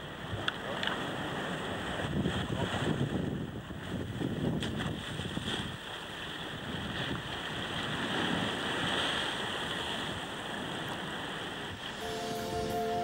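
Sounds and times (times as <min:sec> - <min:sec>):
surf washing against rock: 0:00.3 - 0:12.0.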